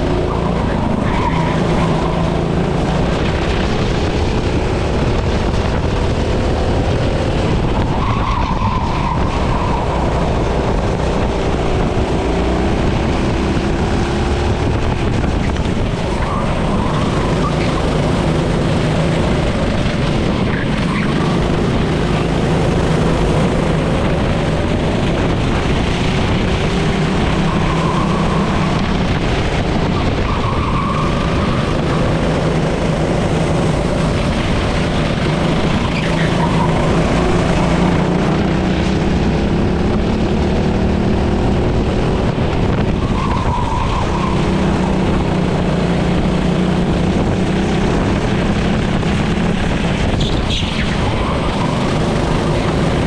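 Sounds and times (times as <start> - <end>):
kart engine revving: 0.0 - 53.0
steady rush of noise: 0.0 - 53.0.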